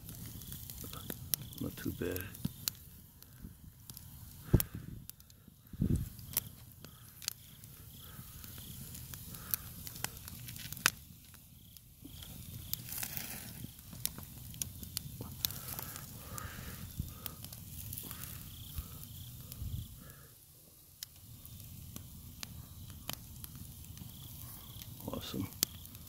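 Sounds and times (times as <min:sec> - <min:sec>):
fire crackling: 0:00.0 - 0:26.0
sharp pops from fire: 0:00.0 - 0:26.0.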